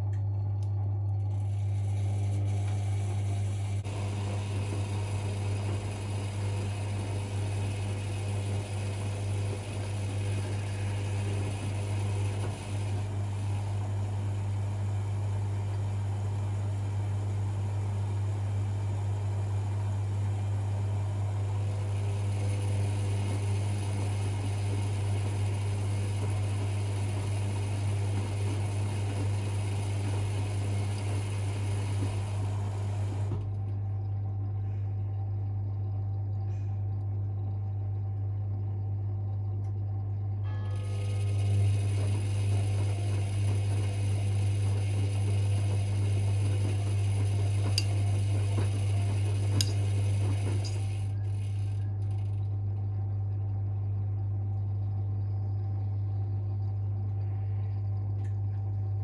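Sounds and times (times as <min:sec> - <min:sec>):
washing machine running: 0:00.0 - 0:59.0.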